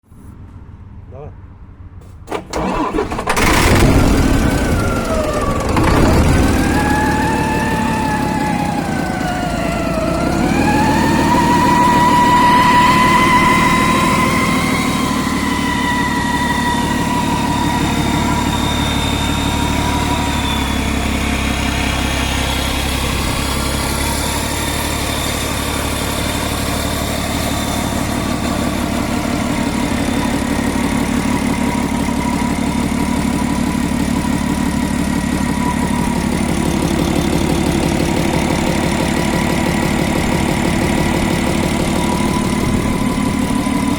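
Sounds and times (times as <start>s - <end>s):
diesel engine idling: 2.0s - 43.9s.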